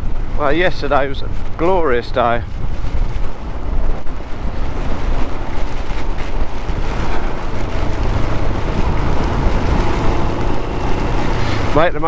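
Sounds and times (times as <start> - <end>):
heavy rain: 0.0 - 12.0
motorcycle engine and road noise: 0.0 - 12.0
wind buffeting on microphone: 0.0 - 12.0.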